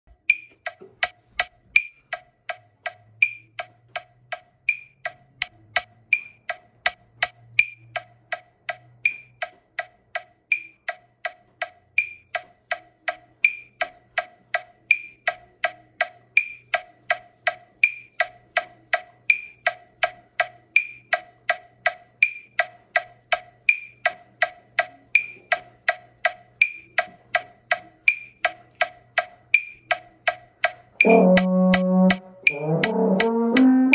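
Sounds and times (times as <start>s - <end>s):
metronome clicking: 0.1s - 33.9s.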